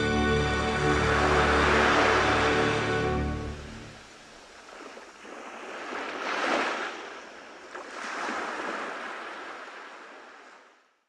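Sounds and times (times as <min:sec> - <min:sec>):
small waves washing up beach: 0:00.3 - 0:11.0.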